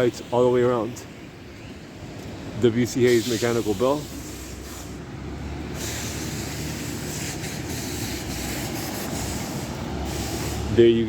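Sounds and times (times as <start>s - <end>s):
traffic rumble with tyre hiss: 0.0s - 11.0s.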